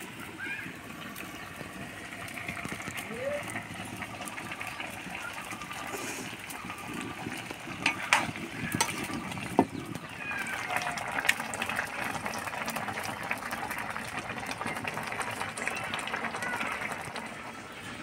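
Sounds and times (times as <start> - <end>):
curry bubbling and sizzling: 0.0 - 18.0.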